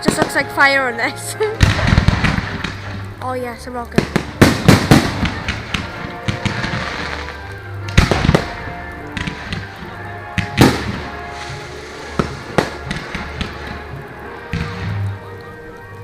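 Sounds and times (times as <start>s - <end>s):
fireworks crackle: 0.0s - 16.0s
fireworks bangs: 1.4s - 15.4s.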